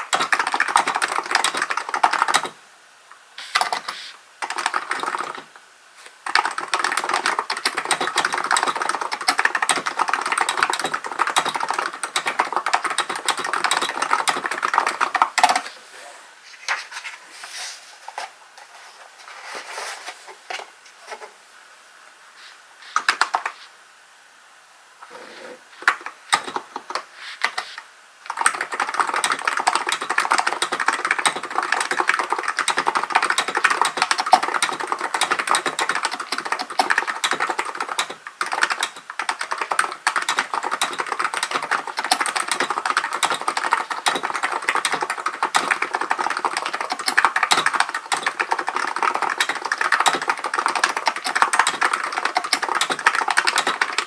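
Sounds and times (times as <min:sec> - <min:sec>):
keyboard typing: 0:00.0 - 0:02.6, 0:03.4 - 0:05.5, 0:06.2 - 0:15.8, 0:22.8 - 0:23.7, 0:25.0 - 0:54.0.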